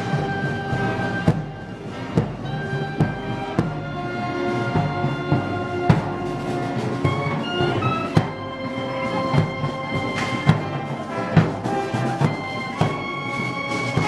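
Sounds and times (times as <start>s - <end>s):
brass sustained notes: 0.0s - 14.0s.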